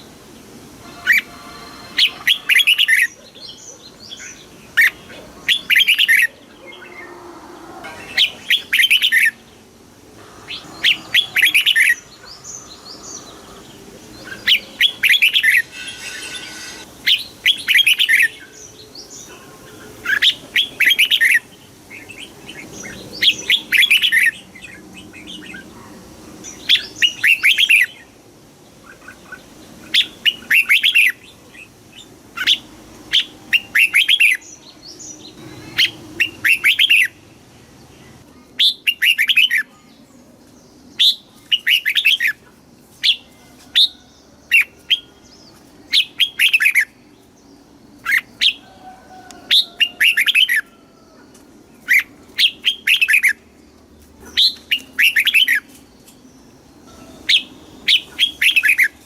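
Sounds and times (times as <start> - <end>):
bird singing warbled phrases: 0.8 - 28.2, 28.8 - 48.7, 49.5 - 59.0.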